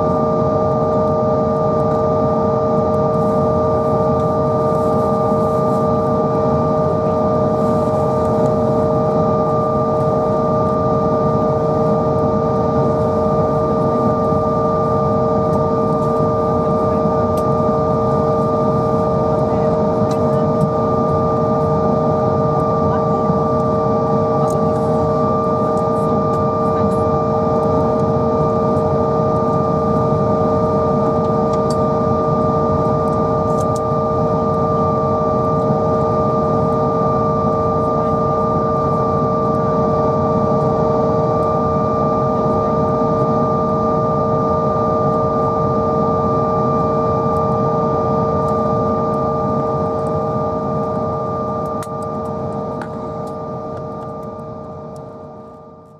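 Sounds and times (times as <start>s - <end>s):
high-pitched engine whine: 0.0s - 55.9s
jet engine rumble in cabin: 0.0s - 55.9s.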